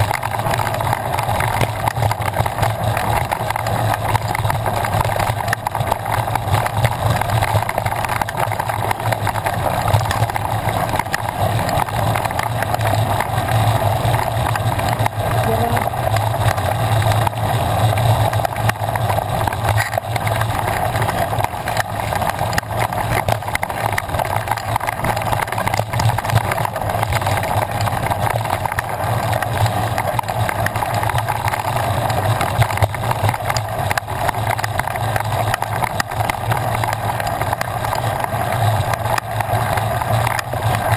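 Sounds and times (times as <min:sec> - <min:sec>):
bike tyres on loose dirt: 0:00.0 - 0:15.4, 0:16.0 - 0:40.9.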